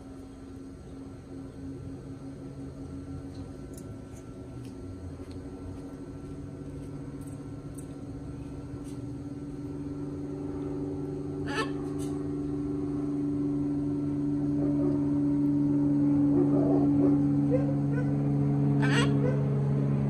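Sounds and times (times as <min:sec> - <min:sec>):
steady motor drone: 0:00.0 - 0:20.0.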